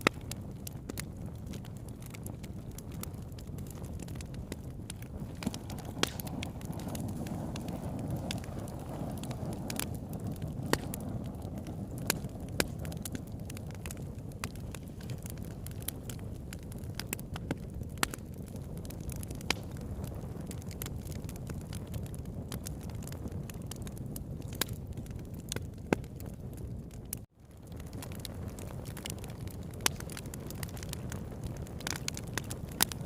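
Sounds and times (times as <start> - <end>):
burning wood crackling and popping: 0.0 - 33.0
campfire flames rumbling: 0.0 - 33.0.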